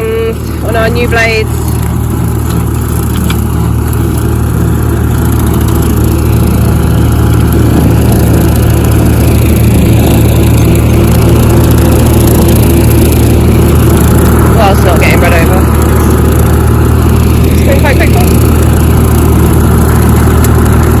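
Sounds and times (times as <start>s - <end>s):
mower cutting brambles: 0.0s - 21.0s
tractor engine running: 0.0s - 21.0s.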